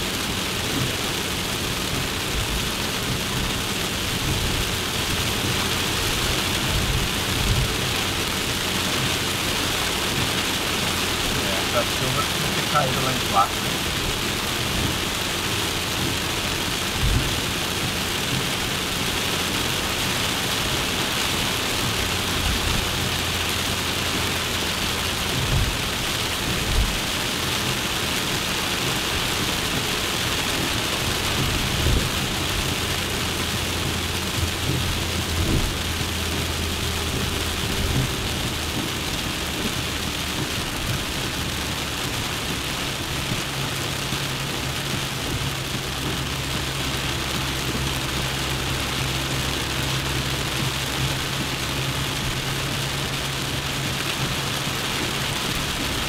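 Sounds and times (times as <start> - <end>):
low car engine hum: 0.0 - 56.0
road and wind hiss: 0.0 - 56.0.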